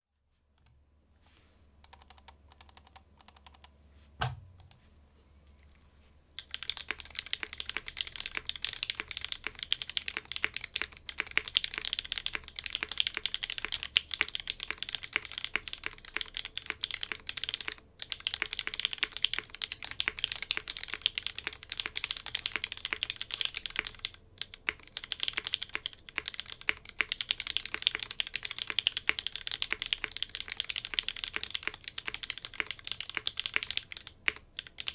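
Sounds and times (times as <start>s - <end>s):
mechanical keyboard typing: 1.8s - 4.8s, 6.4s - 34.9s.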